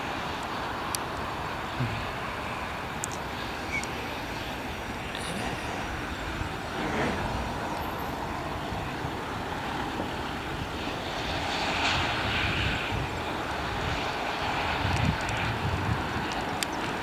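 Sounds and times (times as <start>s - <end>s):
jet taxiing whine and rush: 0.0s - 17.0s.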